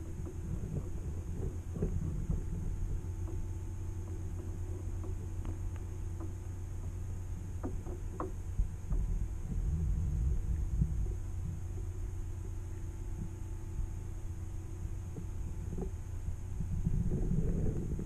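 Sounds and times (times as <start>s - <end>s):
faint underwater ticks and clicks: 0.0s - 18.0s
underwater hum and rumble: 0.0s - 18.0s.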